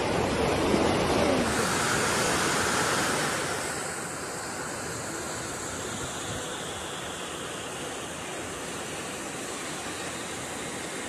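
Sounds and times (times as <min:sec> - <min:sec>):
floodwater rushing: 0:00.0 - 0:11.0
heavy rain: 0:00.0 - 0:11.0.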